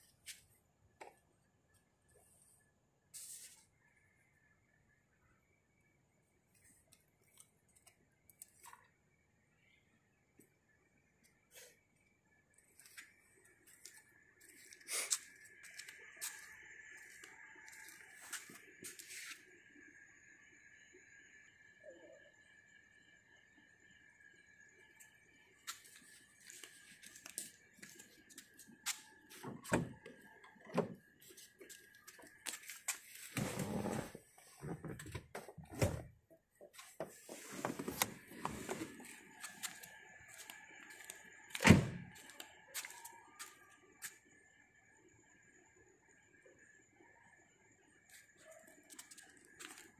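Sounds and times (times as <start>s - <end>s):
faint high whine: 0.0s - 49.9s.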